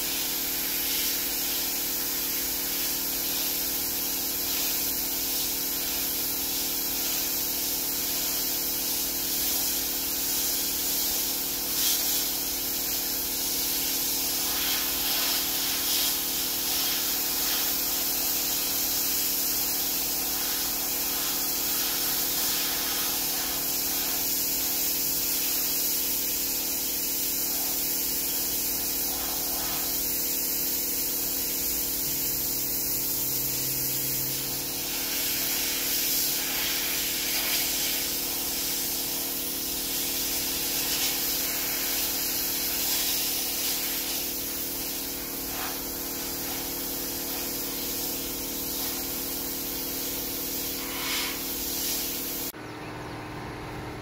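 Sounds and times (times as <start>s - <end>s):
sandblaster hissing: 0.0s - 52.6s.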